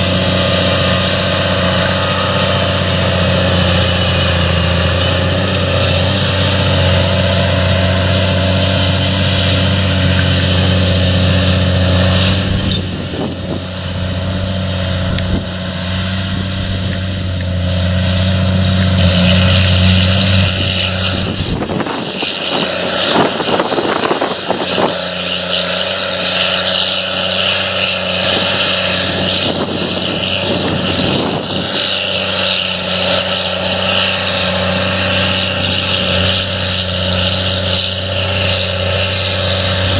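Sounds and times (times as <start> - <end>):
engine humming: 0.0 - 39.9.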